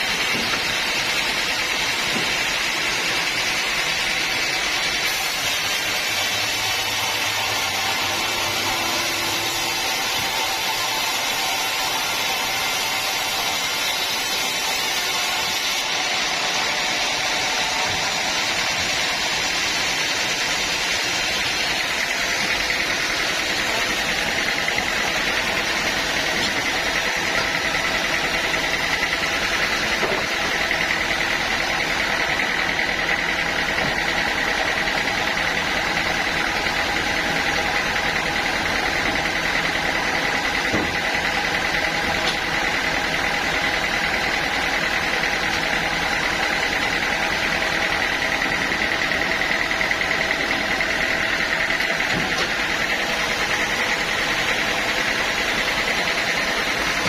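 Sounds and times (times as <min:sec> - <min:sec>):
sawmill droning with high whine: 0:00.0 - 0:57.0.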